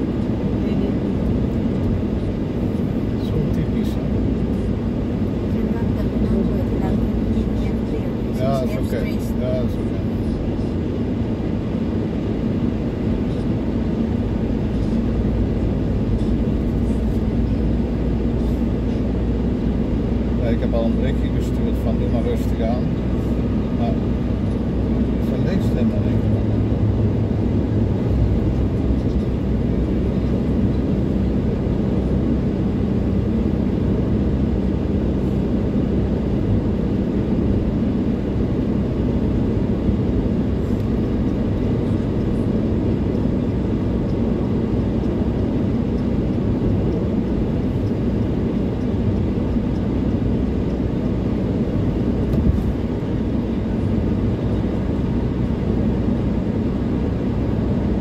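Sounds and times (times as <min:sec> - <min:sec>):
car engine drone: 0:00.0 - 0:58.0
tyre road noise: 0:00.0 - 0:58.0.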